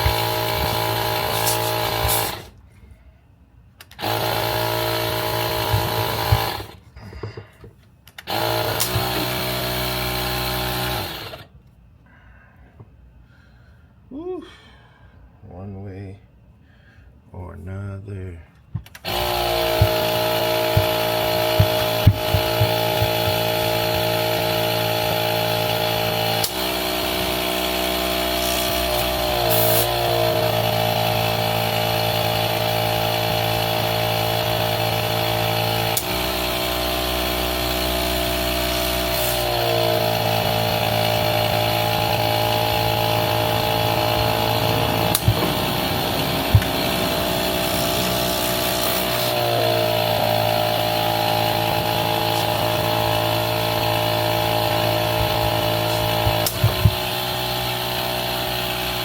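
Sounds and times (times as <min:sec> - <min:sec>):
air compressor motor running: 0:00.0 - 0:02.6, 0:03.9 - 0:07.6, 0:08.2 - 0:11.5, 0:18.6 - 0:59.0.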